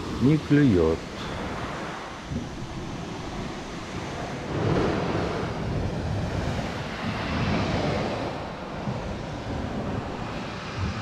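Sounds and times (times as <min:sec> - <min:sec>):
sea surf washing on shore: 0:00.0 - 0:11.0
wind buffeting the microphone: 0:00.0 - 0:11.0.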